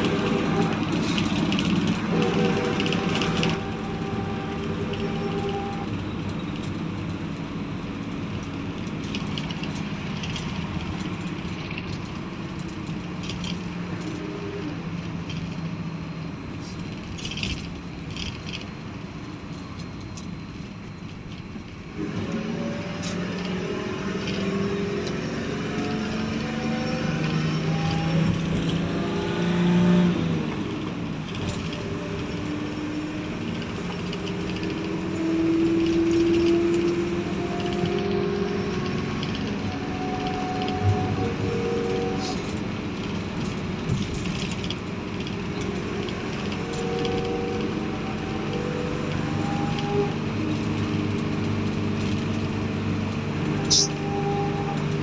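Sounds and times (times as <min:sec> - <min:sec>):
car engines accelerating: 0:00.0 - 0:55.0
steady traffic hum: 0:00.0 - 0:55.0.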